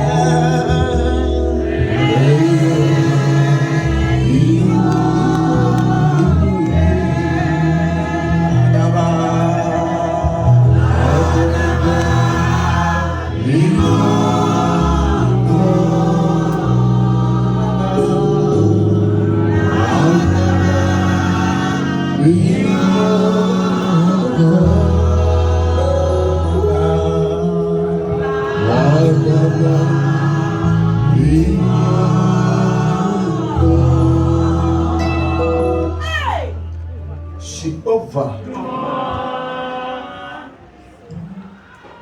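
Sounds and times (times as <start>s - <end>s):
choir singing gospel: 0.0s - 37.6s, 38.2s - 41.3s
held bass notes: 0.0s - 37.8s.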